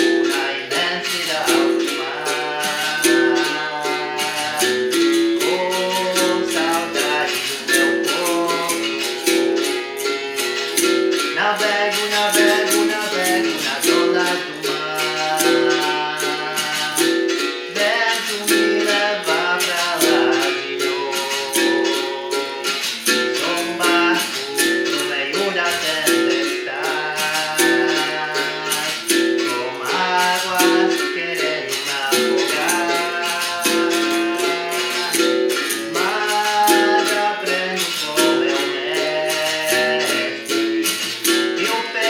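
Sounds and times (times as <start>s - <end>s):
berimbau rhythm: 0.0s - 42.0s
percussion: 0.0s - 42.0s
person singing: 0.0s - 42.0s.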